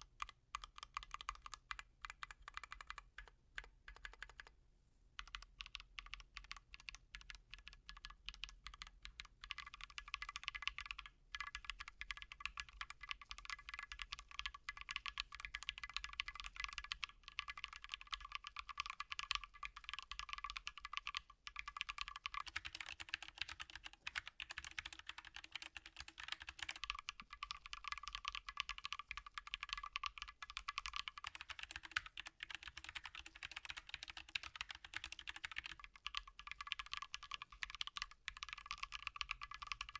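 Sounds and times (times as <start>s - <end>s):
fast typing on mechanical keyboard: 0.0s - 4.5s, 5.2s - 39.9s.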